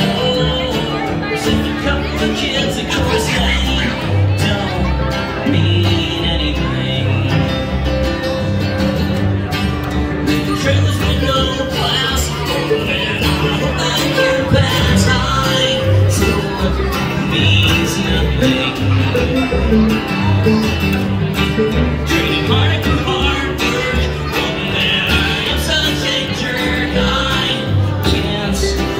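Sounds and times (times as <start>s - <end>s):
acoustic guitar strumming: 0.0s - 28.9s
double bass plucking: 0.0s - 28.9s
mandolin: 0.0s - 28.9s.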